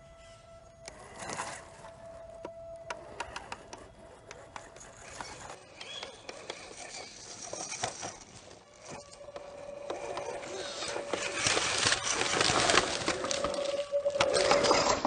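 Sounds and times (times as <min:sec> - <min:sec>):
electric motor and gear whine: 0:00.0 - 0:15.0
tyres crackling on dirt: 0:00.8 - 0:15.0.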